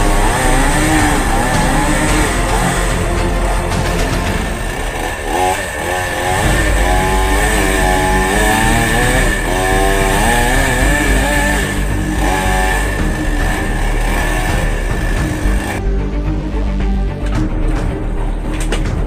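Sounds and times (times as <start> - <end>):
chainsaw cutting wood: 0.0 - 15.8.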